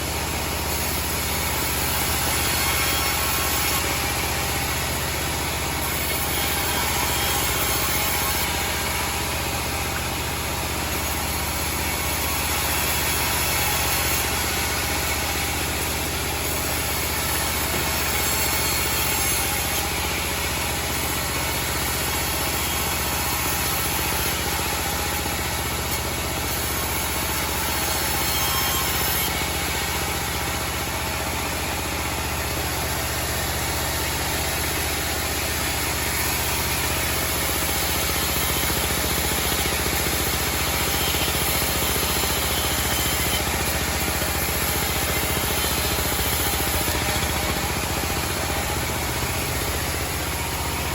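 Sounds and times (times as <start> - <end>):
band sawmill running: 0.0 - 50.9.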